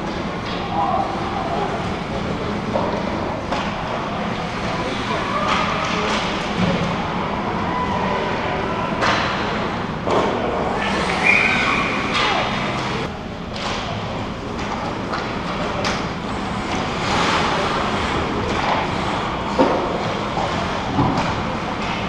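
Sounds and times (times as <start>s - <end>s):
arena crowd hubbub: 0.0s - 22.0s.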